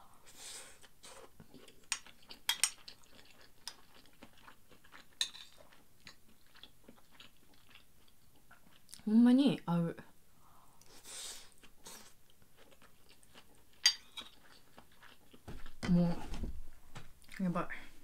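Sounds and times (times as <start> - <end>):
soft chewing: 0.3 - 9.1, 10.6 - 16.4.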